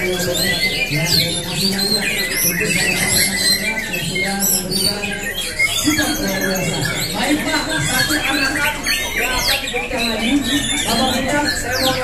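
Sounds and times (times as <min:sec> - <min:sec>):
birds singing whistles and chirps: 0:00.0 - 0:12.0
voices of onlookers: 0:00.0 - 0:12.0.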